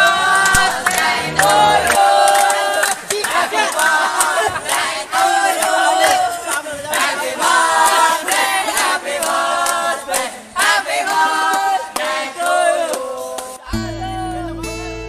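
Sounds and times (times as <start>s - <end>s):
group singing unaccompanied: 0.0s - 13.6s.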